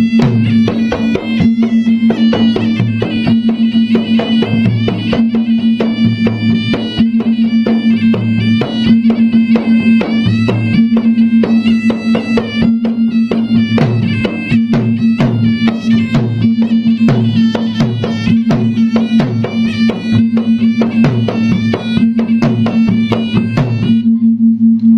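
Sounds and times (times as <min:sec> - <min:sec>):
drums beating fast rhythm: 0:00.0 - 0:24.0
reedy wind melody: 0:00.0 - 0:24.4.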